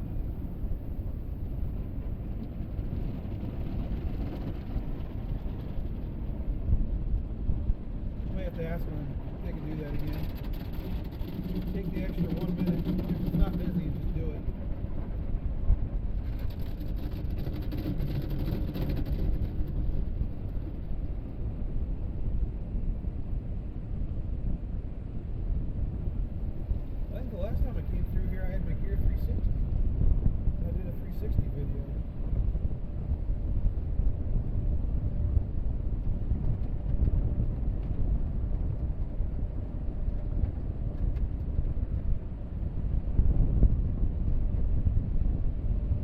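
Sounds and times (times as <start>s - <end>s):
faint engine hum: 0.0s - 46.0s.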